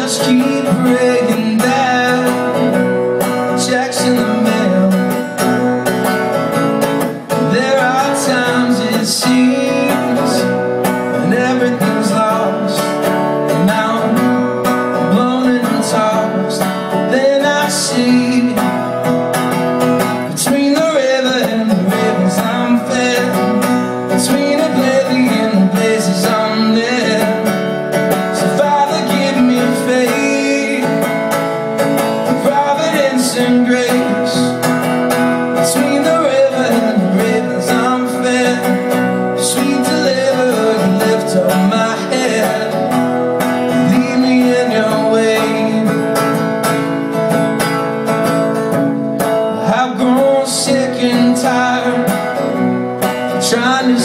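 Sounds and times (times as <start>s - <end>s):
acoustic guitar strummed: 0.0s - 54.0s
man singing: 0.0s - 54.0s.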